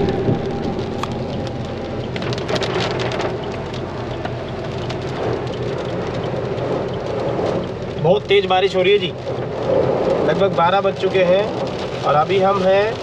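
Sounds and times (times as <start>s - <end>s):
car road noise: 0.0s - 10.4s
heavy rain on a car roof: 0.0s - 13.0s.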